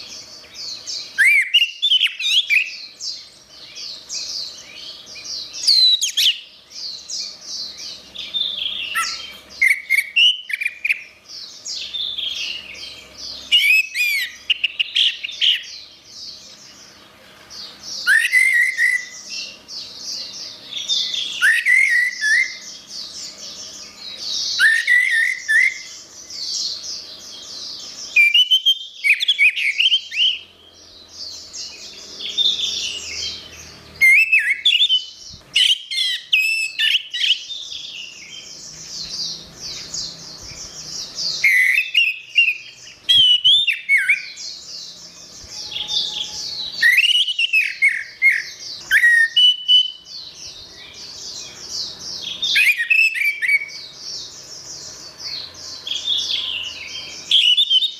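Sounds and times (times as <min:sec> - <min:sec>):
thrush singing chirps and whistles: 0:00.0 - 0:57.9.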